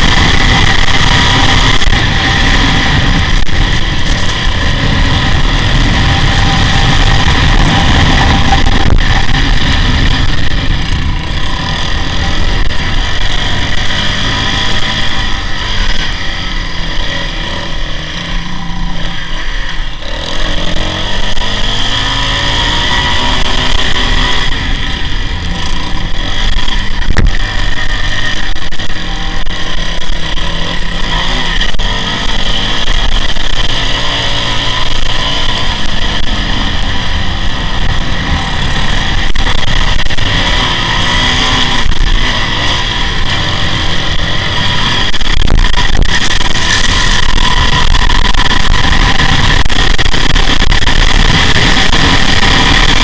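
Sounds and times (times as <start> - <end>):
quad engine revving hard: 0.0 - 53.0.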